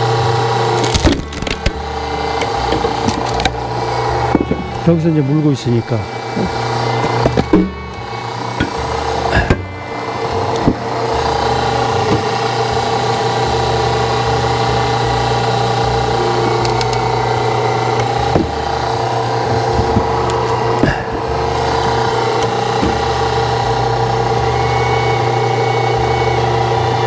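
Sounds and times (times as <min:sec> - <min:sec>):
sharp cracks of splitting log: 0:00.0 - 0:04.8, 0:06.3 - 0:24.4
hydraulic log splitter drone: 0:00.0 - 0:27.0.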